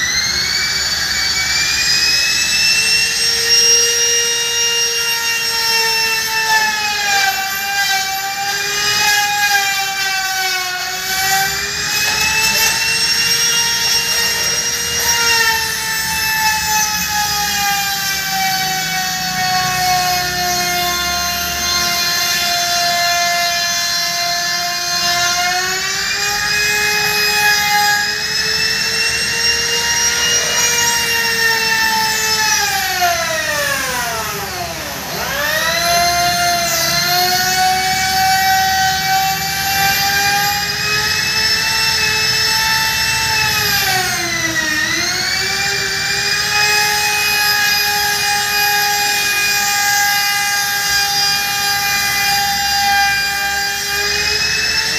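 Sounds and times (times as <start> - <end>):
trim router whining: 0.0 - 54.9.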